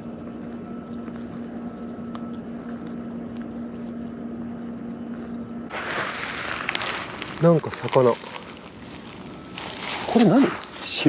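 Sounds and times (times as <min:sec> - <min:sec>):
low mechanical hum: 0:00.0 - 0:11.0
soft background noise: 0:00.3 - 0:11.0.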